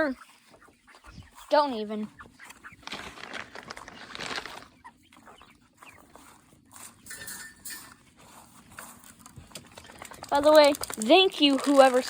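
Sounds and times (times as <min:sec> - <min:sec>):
chickens clucking: 0:00.0 - 0:12.0
scratchy rustling: 0:00.0 - 0:12.0.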